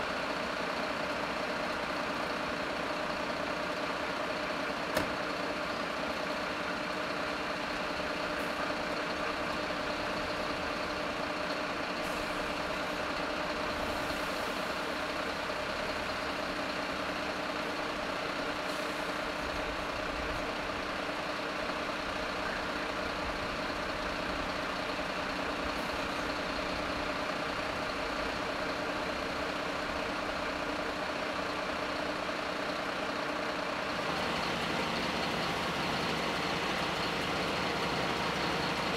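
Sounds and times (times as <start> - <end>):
heavy engines idling: 0.0 - 38.9.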